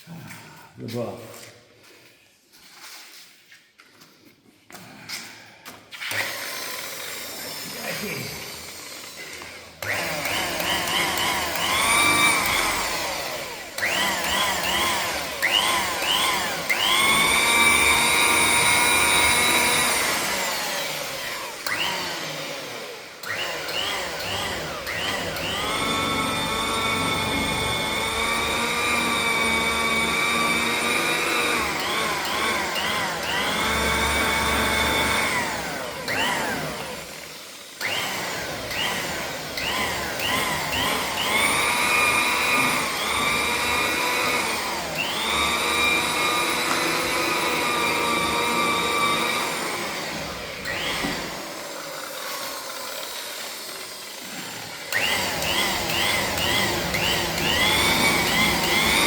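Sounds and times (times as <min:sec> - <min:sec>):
power tool buffing whine: 0:05.9 - 0:59.0.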